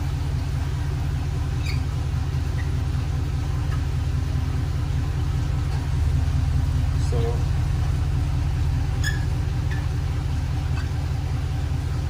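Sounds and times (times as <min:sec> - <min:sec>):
pickup truck engine idling: 0:00.0 - 0:12.0.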